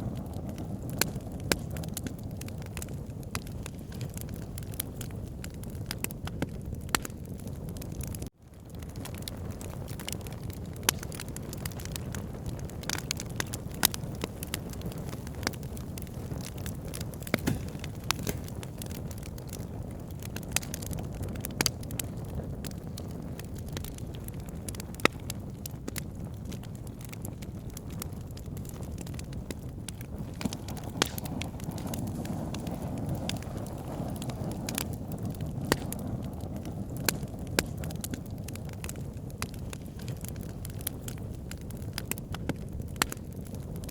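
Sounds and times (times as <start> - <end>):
burning wood crackling and popping: 0.0 - 43.9.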